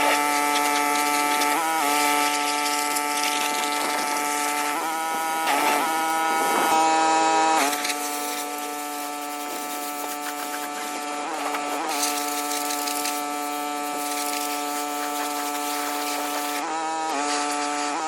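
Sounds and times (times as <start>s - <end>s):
motor humming: 0.0s - 17.9s.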